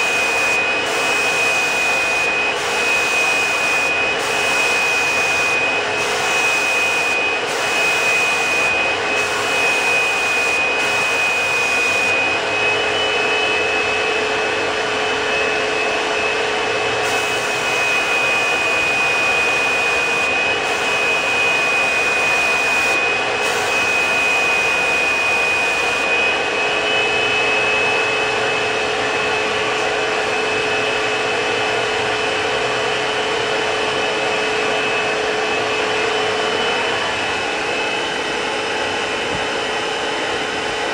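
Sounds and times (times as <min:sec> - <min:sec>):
spray system turbine whine: 0:00.0 - 0:40.9.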